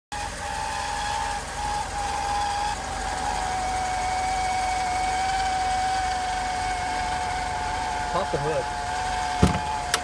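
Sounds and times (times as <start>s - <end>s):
car engine running: 0.1s - 10.0s
high-pitched water pump whine: 0.1s - 10.0s.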